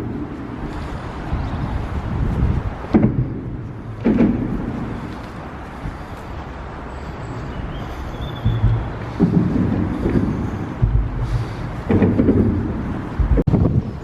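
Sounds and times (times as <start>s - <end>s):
wind buffeting microphone: 0.0s - 14.0s
wind gusts or knocks: 0.0s - 14.0s.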